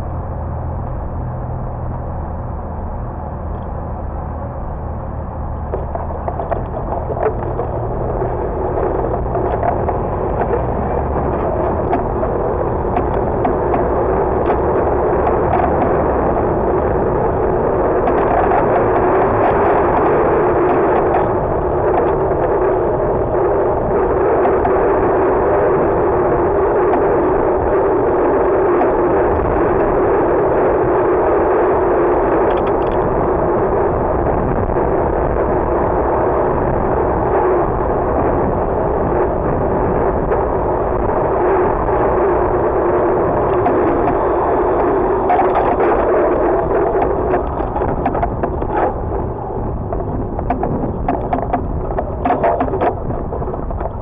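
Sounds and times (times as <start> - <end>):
low engine hum: 0.0 - 54.0
road rumble: 0.0 - 54.0
wind: 0.0 - 54.0.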